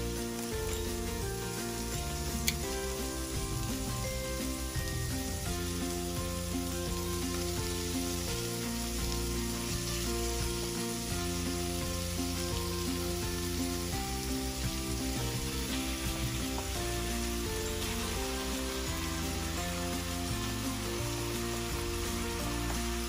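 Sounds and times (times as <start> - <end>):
background music: 0.0 - 23.0
beef sizzling in a skillet: 0.0 - 23.0.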